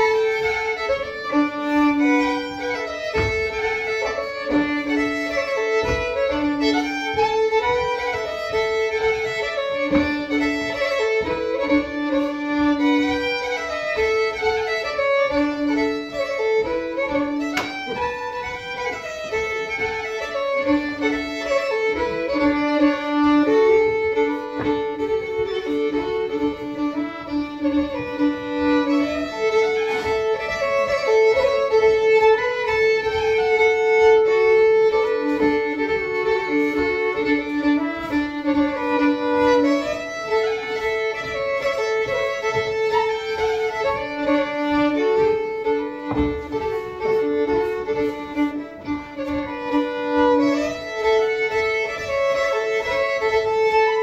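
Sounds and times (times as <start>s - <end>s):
fiddle playing dance tune: 0.0s - 54.0s.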